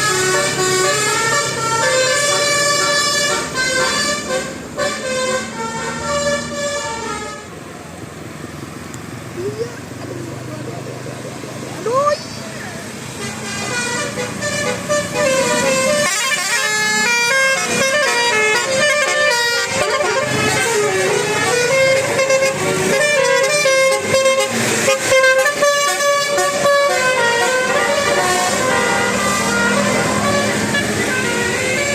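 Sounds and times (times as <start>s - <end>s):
bus musical horn playing a tune: 0.0s - 7.6s, 13.1s - 31.9s.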